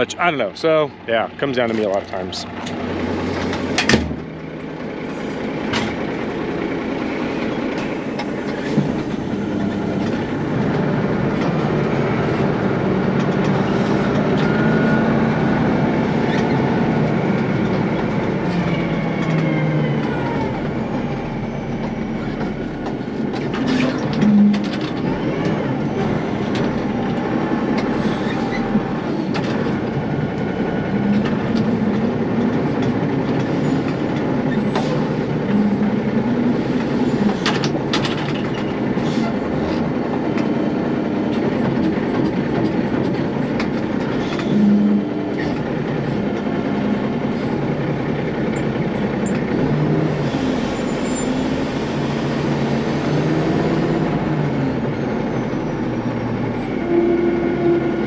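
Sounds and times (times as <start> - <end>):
engine and hydraulic din: 0.0 - 58.0.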